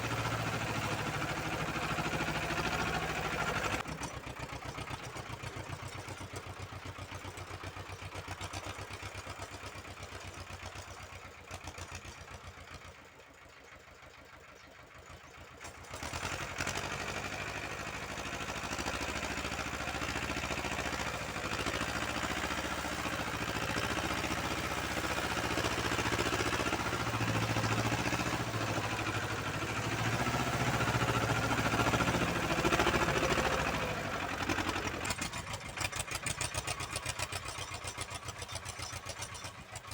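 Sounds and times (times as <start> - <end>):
tractor engine pulsing: 0.0 - 8.0, 15.8 - 39.9.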